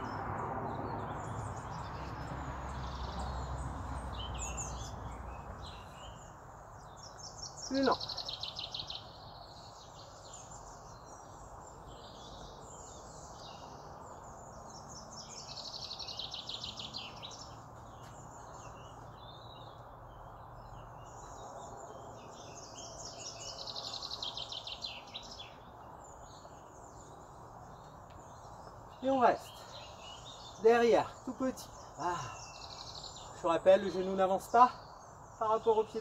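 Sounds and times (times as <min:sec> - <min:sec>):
outdoor background hiss: 0:00.0 - 0:36.0
small birds trilling chirps: 0:00.0 - 0:36.0.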